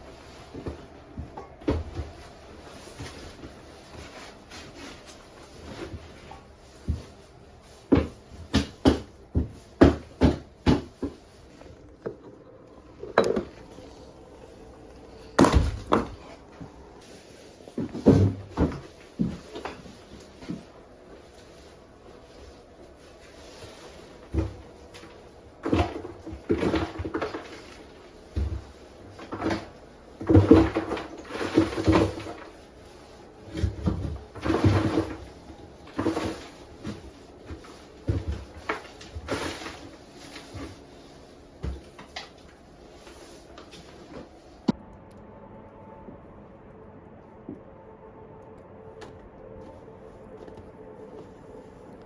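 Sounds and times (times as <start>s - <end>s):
handling knocks and rustles: 0.0s - 12.4s, 13.0s - 44.8s.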